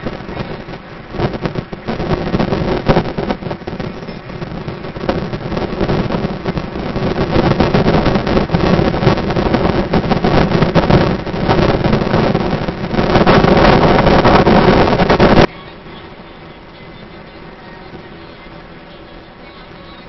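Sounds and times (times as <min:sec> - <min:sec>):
car road noise: 0:00.0 - 0:20.0
gusting wind: 0:00.0 - 0:20.0.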